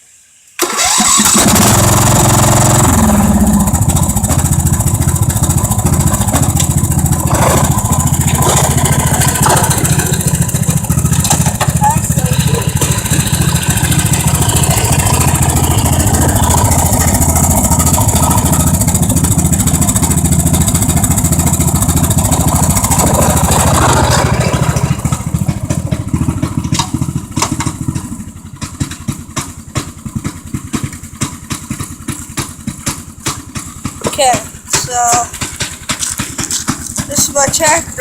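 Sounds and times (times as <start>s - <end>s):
lawn tractor engine running: 0.6s - 38.0s.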